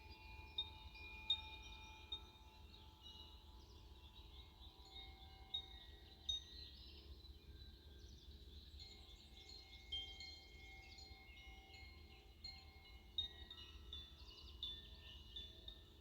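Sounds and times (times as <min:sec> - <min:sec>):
wind chimes ringing: 0:00.0 - 0:07.2, 0:08.7 - 0:16.0.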